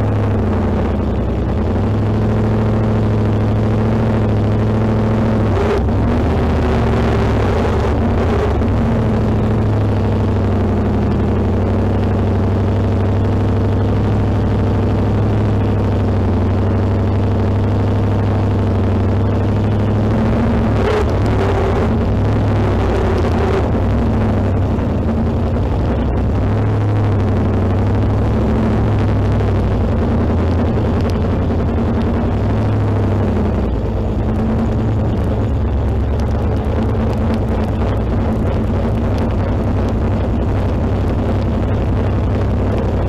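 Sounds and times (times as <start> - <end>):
race car engine running at low revs: 0.0 - 43.0.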